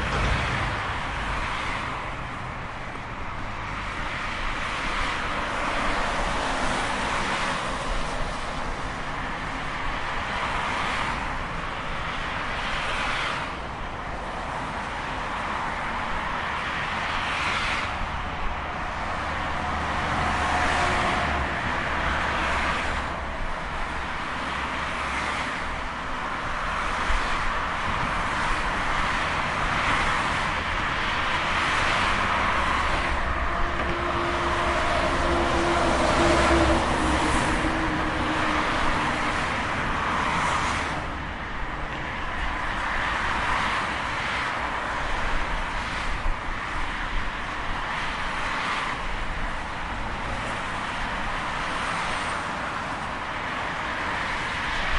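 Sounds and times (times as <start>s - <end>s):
cars passing: 0.0s - 54.9s
continuous traffic hum: 0.0s - 54.9s.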